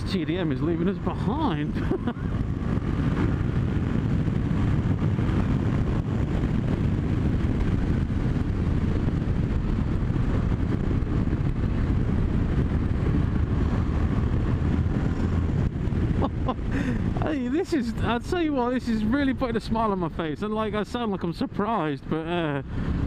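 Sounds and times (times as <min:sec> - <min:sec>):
motorcycle engine running: 0:00.0 - 0:18.7
wind rush on microphone: 0:00.0 - 0:23.0.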